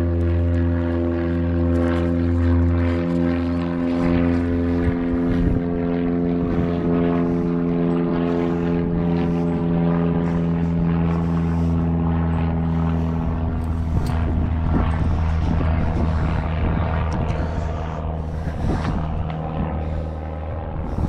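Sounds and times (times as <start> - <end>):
engine-like drone: 0.0 - 21.0.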